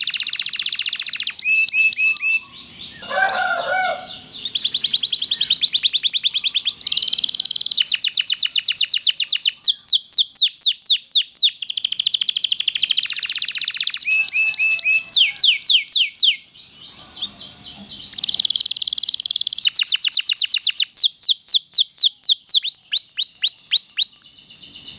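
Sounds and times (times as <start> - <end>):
canary singing trills: 0.0 - 24.9.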